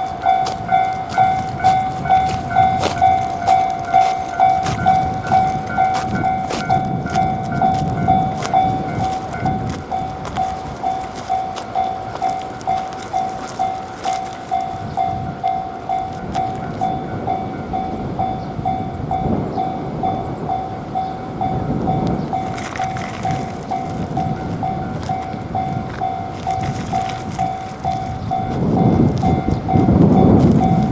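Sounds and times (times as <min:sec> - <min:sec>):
level crossing warning bell ringing: 0:00.0 - 0:30.9
train rumbling past: 0:00.0 - 0:30.9
wheels clacking over rail joints: 0:00.0 - 0:30.9.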